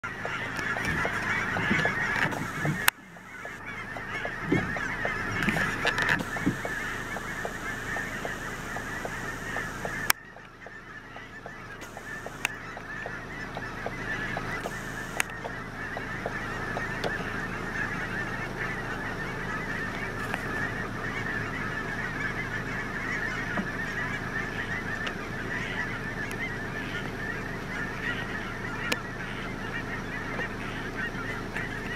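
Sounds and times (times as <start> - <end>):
flock of geese honking: 0.0 - 31.9.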